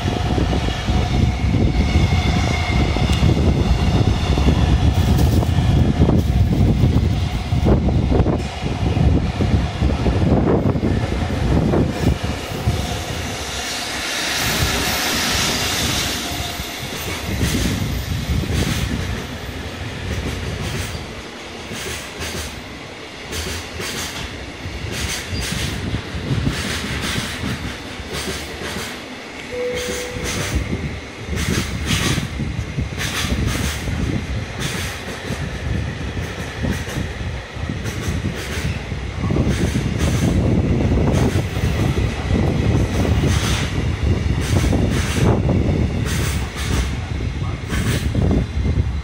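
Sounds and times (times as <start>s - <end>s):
freight train wagons rumbling past: 0.0s - 49.0s.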